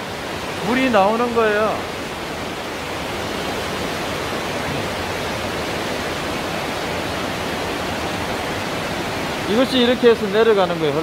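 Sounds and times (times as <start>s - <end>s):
waterfall rushing in a cave: 0.0s - 11.0s.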